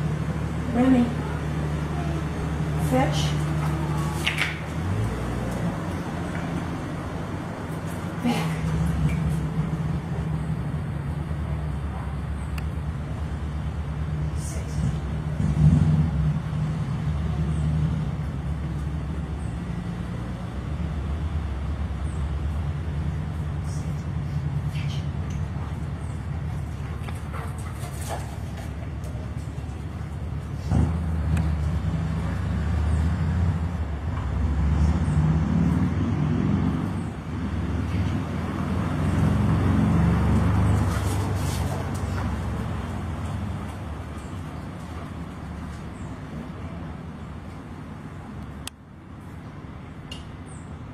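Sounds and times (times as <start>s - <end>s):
motor vehicle traffic rumble: 0.0s - 50.9s.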